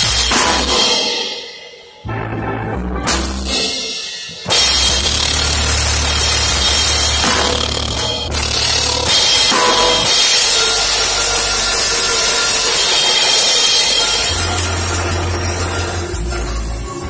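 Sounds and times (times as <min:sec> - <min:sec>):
drum kit with crashing cymbals: 0:00.0 - 0:02.0, 0:03.1 - 0:17.0.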